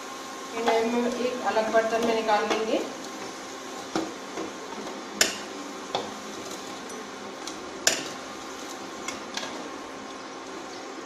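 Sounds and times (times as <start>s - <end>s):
cooktop humming: 0.0s - 11.0s.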